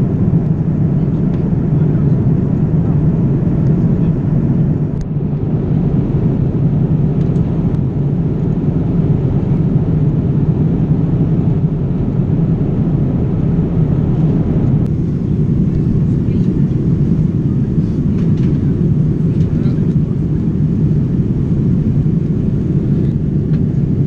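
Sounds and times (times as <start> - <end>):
airplane cabin noise: 0.0 - 24.0.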